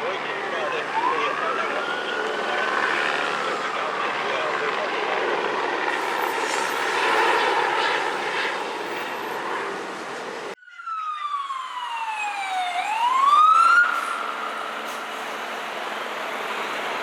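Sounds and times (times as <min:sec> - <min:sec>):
emergency siren wailing: 0:00.0 - 0:17.0
road noise: 0:00.0 - 0:17.0.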